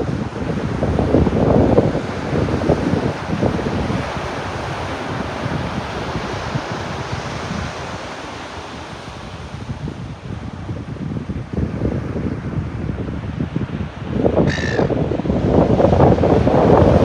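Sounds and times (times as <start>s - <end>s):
ocean waves washing up beach: 0.0s - 17.0s
wind buffeting microphone: 0.0s - 17.0s.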